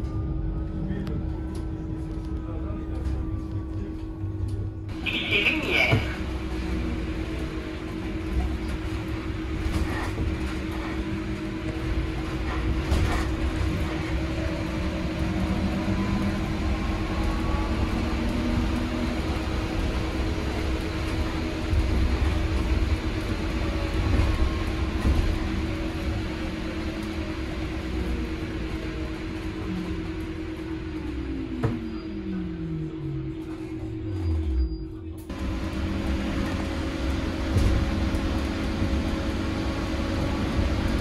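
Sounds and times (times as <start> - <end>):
road and tyre rumble: 0.0 - 41.0
steady bus hum: 0.0 - 41.0.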